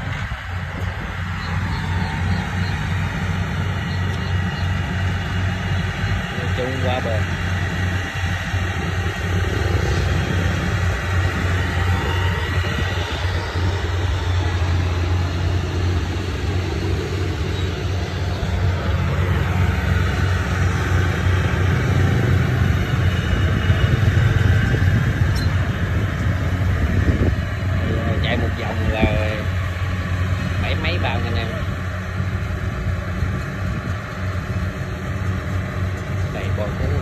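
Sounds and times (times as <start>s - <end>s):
combine harvester droning: 0.0s - 37.0s.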